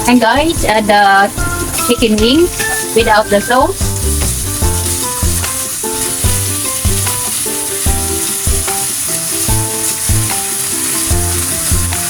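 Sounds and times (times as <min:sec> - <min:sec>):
background music: 0:00.0 - 0:12.0
chicken frying in oil: 0:00.0 - 0:12.0.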